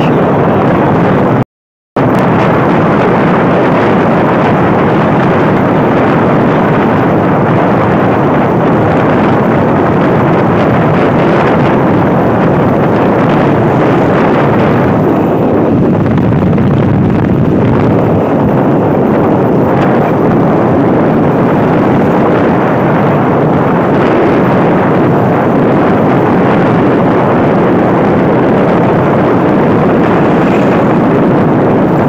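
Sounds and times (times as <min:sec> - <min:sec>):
wind buffeting microphone: 0:00.0 - 0:01.4, 0:02.0 - 0:32.0.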